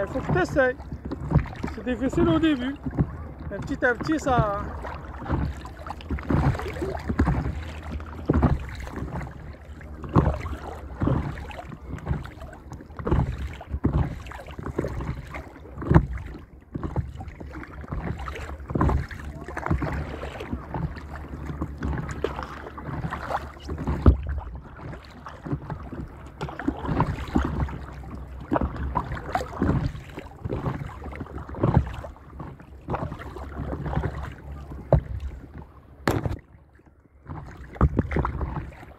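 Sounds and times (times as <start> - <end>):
wind rumble on microphone: 0.0 - 36.4, 37.1 - 38.9
water splashing against paddleboard: 0.0 - 38.9.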